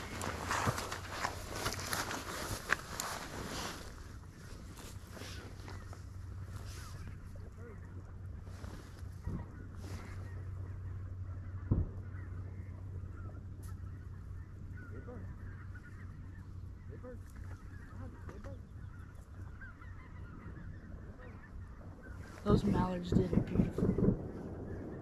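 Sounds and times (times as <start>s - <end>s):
geese honking in the distance: 0.0s - 25.0s
low wind rumble: 0.0s - 25.0s.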